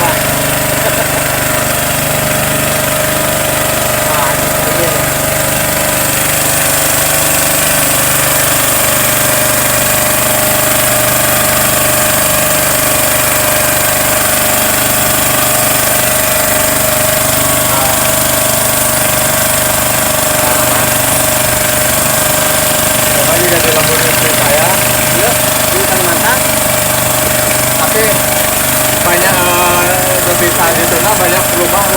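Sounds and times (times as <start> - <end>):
boat engine droning: 0.0 - 31.9.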